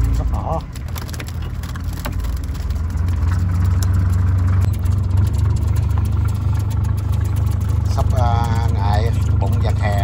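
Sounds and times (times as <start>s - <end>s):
boat engine rumble: 0.0s - 10.0s
faint clicks and clatter: 0.0s - 10.0s.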